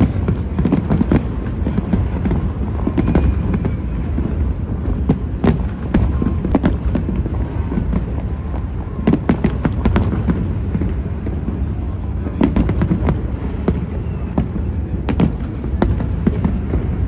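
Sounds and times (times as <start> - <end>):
fireworks rumbling bursts: 0.0 - 17.0
fireworks sharp cracks: 0.0 - 17.0.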